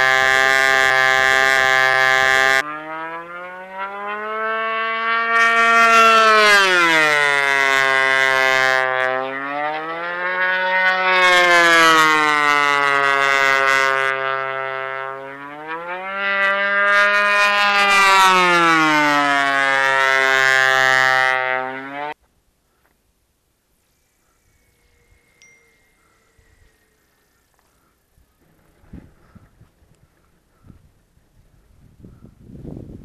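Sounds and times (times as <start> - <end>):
model airplane engine and propeller: 0.0 - 22.2, 23.4 - 33.0.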